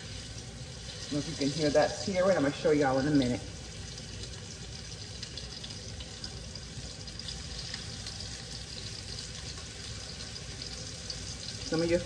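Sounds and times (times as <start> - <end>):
chicken sizzling in a skillet: 0.0 - 12.0.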